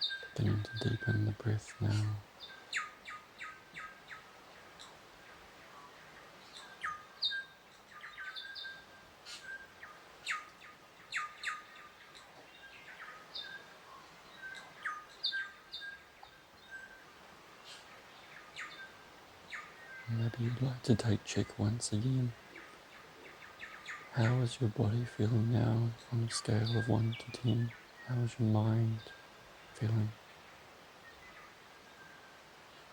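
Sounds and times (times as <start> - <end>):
birds chirping: 0.0 - 32.9
faint background hiss: 0.0 - 32.9.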